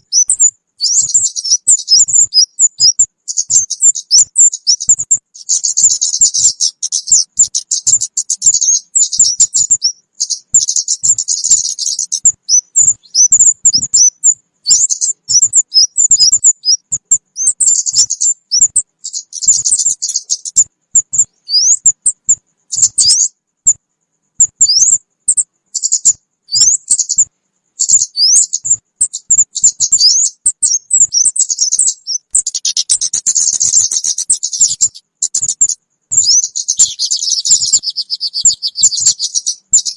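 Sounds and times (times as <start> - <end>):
high bird chirps and calls: 0.0 - 23.8, 24.4 - 39.9.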